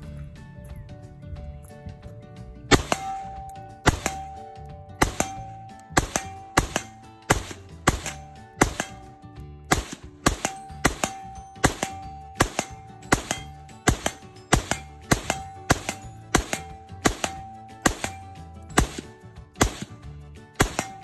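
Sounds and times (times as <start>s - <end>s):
background music: 0.0s - 21.0s
gunshots: 2.7s - 21.0s.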